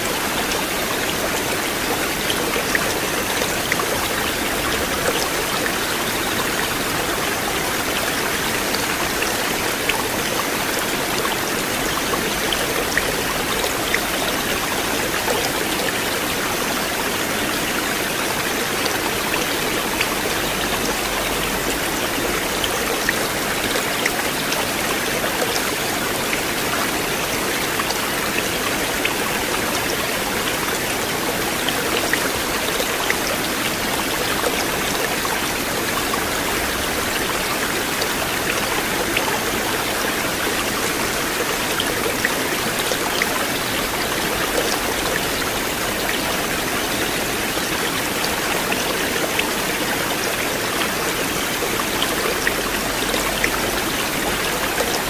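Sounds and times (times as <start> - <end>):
river water rushing: 0.0 - 55.0
water splashes and drips: 0.0 - 55.0.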